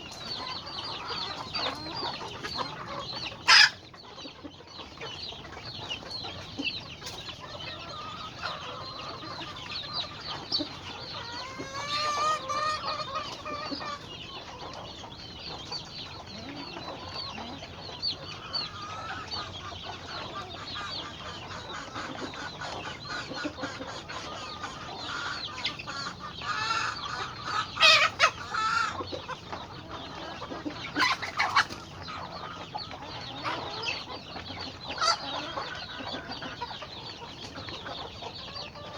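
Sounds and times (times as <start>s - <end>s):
chickens clucking: 0.0s - 38.9s
chicken squawks: 0.2s - 4.0s, 6.3s - 14.6s, 16.4s - 36.9s.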